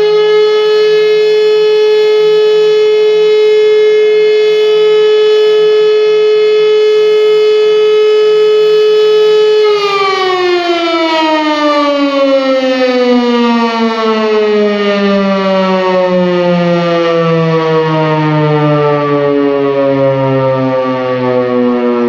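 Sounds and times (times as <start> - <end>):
siren winding down: 0.0 - 22.0.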